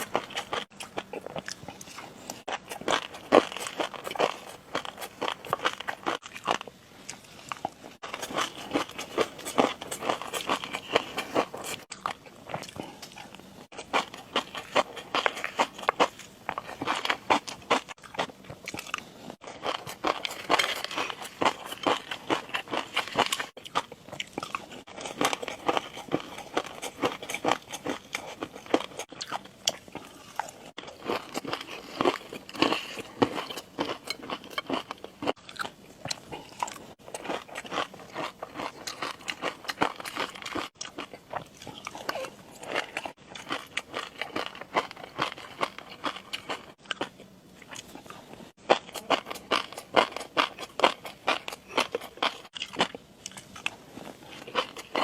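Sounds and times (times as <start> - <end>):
crisp crunching and chewing: 0.0 - 55.0.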